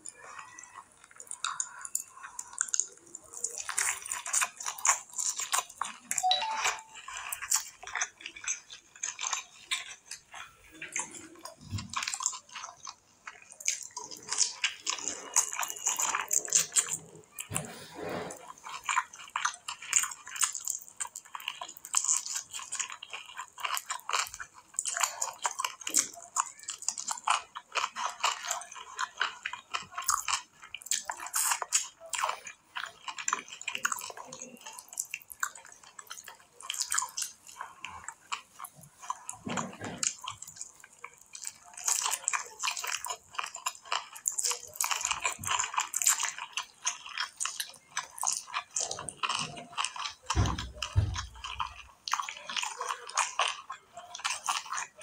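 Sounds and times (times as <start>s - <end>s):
fingers squishing rice: 0.0s - 39.4s, 40.0s - 55.0s
wet chewing: 0.0s - 55.0s.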